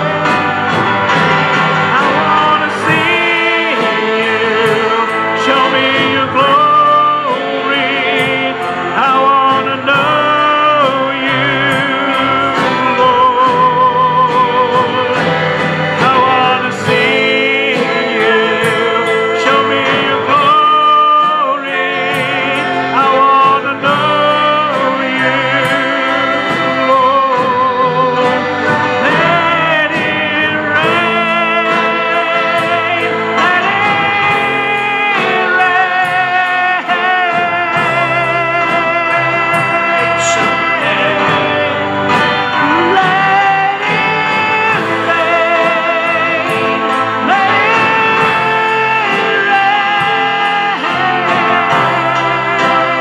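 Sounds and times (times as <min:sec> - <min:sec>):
electric bass guitar: 0:00.0 - 0:53.0
keyboard: 0:00.0 - 0:53.0
man singing into microphone: 0:00.0 - 0:53.0.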